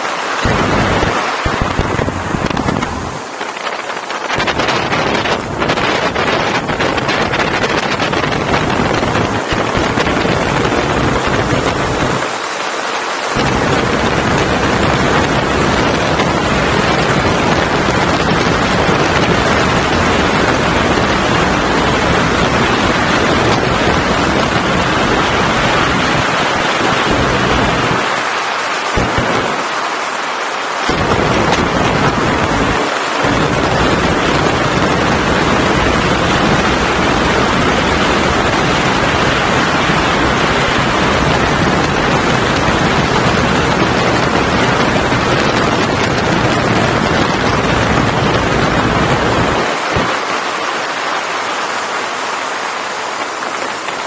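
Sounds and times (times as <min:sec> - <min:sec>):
wind rushing over microphone: 0:00.0 - 0:54.0
motorcycle engine rumble: 0:00.4 - 0:12.4, 0:13.3 - 0:29.8, 0:30.8 - 0:50.2.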